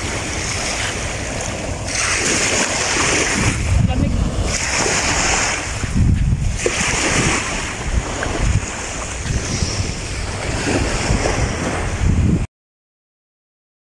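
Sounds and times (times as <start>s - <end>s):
small waves on pebbly beach: 0.0s - 12.1s
wind buffeting microphone: 0.0s - 12.5s.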